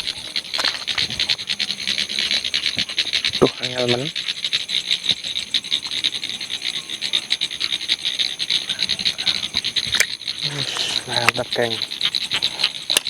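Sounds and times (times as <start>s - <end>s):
frogs calling: 0.0s - 13.0s
high insect trill: 0.0s - 13.0s.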